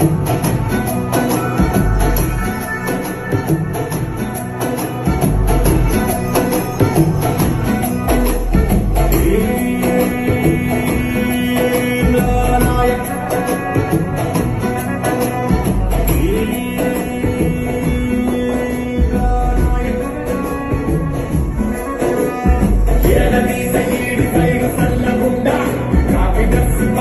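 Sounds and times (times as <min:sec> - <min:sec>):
busy high percussion: 0:00.0 - 0:27.0
loud music with heavy bass: 0:00.0 - 0:27.0.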